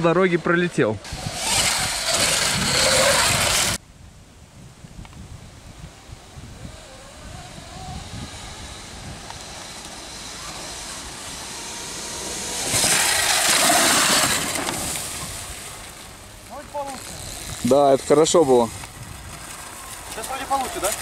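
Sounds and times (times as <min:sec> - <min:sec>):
electric motor whine: 0:01.0 - 0:03.8, 0:05.8 - 0:21.0
rush of tyre and wind noise: 0:01.0 - 0:21.0.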